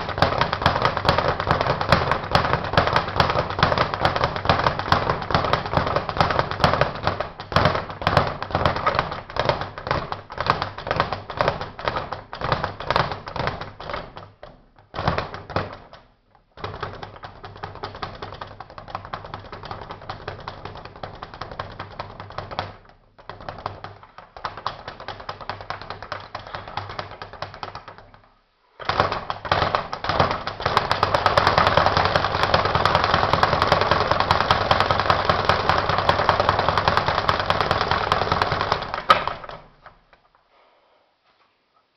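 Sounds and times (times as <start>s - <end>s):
speed bag rattling: 0.0s - 40.3s.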